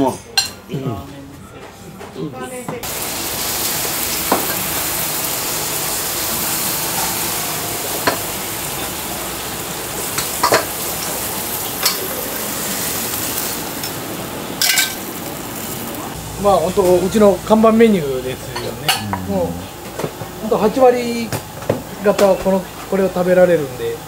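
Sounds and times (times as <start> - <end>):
food sizzling in a wok: 2.8 - 24.0.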